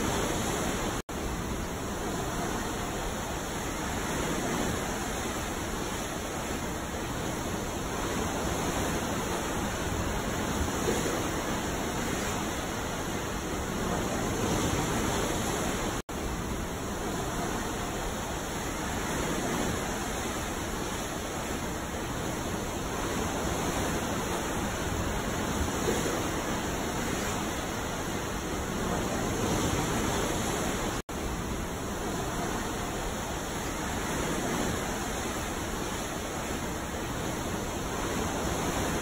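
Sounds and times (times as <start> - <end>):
ocean waves washing: 0.0 - 39.0.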